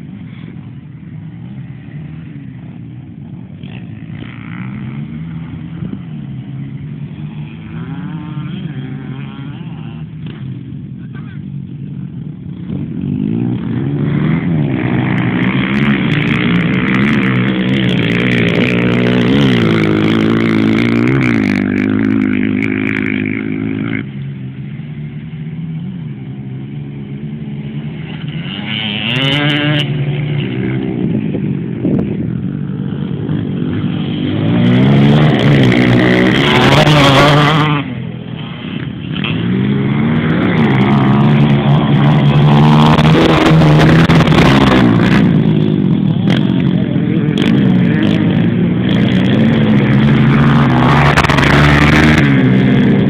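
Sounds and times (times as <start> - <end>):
motorcycle engines revving: 0.0 - 53.0.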